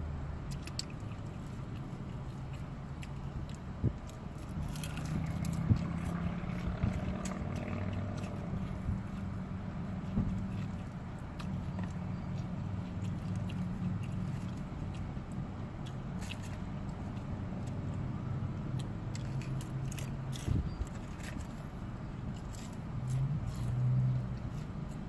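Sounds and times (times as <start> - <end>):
low hum inside a car: 0.0 - 25.0
chewing crispy fried chicken: 0.1 - 25.0.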